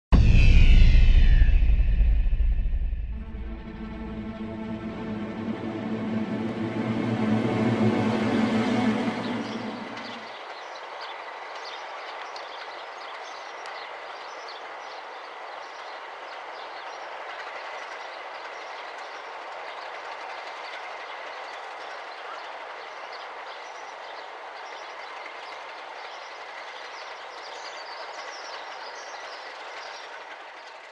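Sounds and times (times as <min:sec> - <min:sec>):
train wheels rushing on rail: 0:00.2 - 0:30.9.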